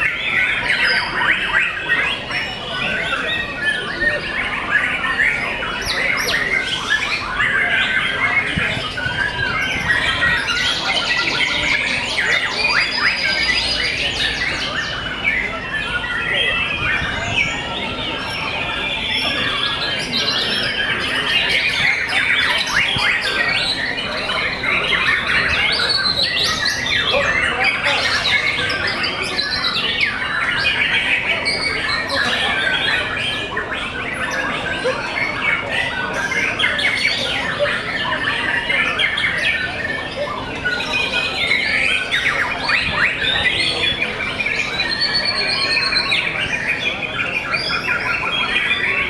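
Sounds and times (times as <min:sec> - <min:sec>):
many songbirds singing: 0:00.0 - 0:49.0.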